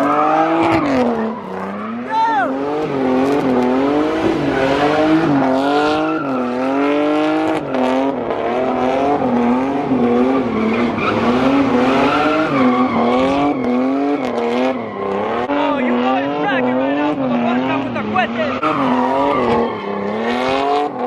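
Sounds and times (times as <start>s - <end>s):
tyres spinning and squealing: 0.0s - 9.3s, 9.9s - 21.0s
car engine revving hard: 0.0s - 21.0s.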